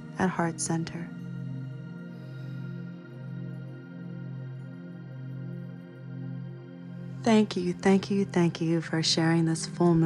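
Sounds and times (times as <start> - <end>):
soft new-age music: 0.0 - 10.0.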